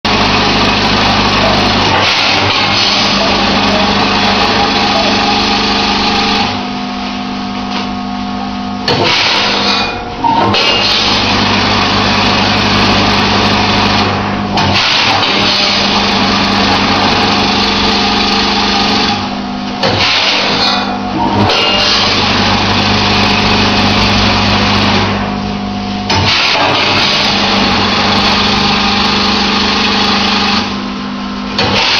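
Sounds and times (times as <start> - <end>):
packing machine motor drone: 0.1 - 31.9.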